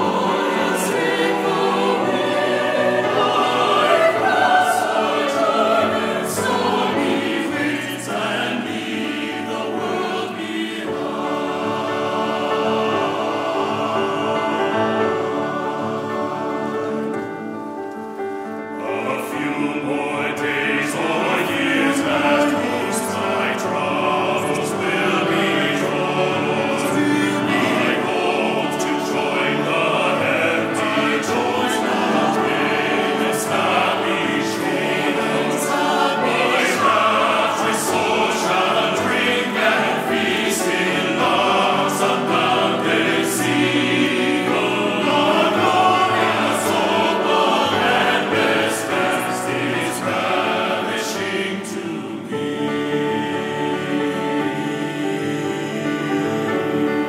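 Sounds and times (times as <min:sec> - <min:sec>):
choir singing a hymn: 0:00.0 - 0:57.0
grand piano: 0:00.0 - 0:57.0.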